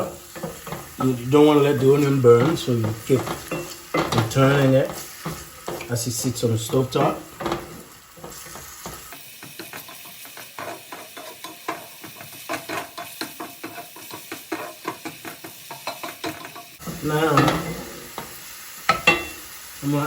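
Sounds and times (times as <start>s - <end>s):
onion sizzling in oil: 0.0s - 20.0s
utensil scraping a skillet: 0.0s - 20.0s.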